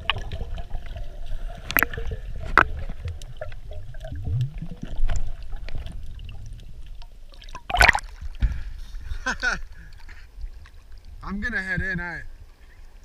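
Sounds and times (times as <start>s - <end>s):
water sloshing and gurgling: 0.0s - 13.0s.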